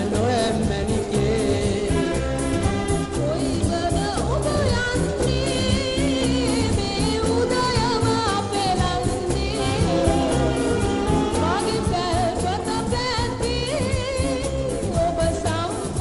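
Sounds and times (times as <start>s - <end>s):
person singing: 0.0s - 16.0s
rhythmic accompaniment: 0.0s - 16.0s.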